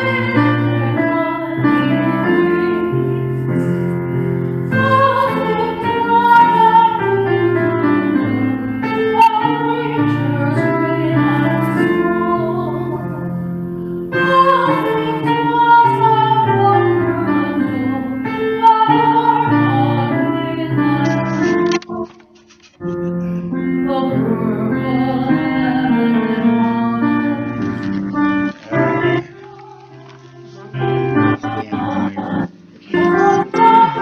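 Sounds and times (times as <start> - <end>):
woman singing: 0.0 - 3.2, 4.7 - 13.4, 14.1 - 21.3, 23.8 - 27.6, 29.0 - 34.0
piano accompaniment: 0.0 - 34.0.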